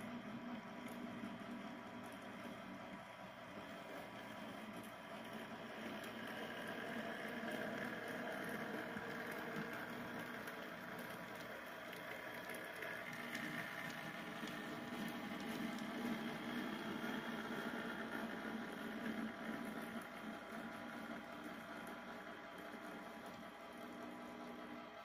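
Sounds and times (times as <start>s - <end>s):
model locomotive humming: 2.3s - 25.0s.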